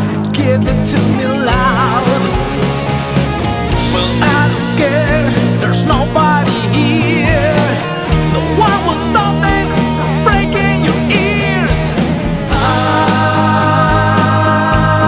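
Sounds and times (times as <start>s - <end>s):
bending lead guitar line: 0.0s - 15.0s
drums and bass: 0.0s - 15.0s.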